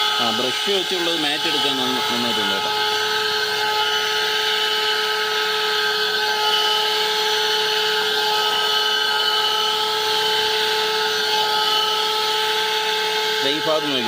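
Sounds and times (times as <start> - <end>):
handheld vacuum cleaner running: 0.0 - 14.0.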